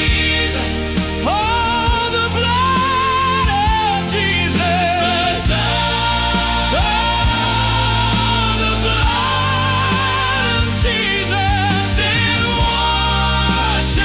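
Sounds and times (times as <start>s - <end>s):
bass: 0.0s - 14.0s
drum beat: 0.0s - 14.0s
person singing gospel: 0.0s - 14.0s.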